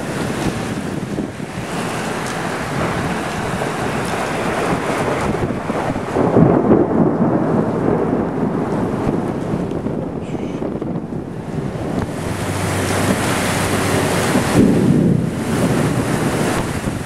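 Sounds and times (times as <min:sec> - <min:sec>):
gusting wind: 0:00.0 - 0:17.0
heavy rain: 0:00.0 - 0:17.0
low roll of thunder: 0:00.0 - 0:17.0.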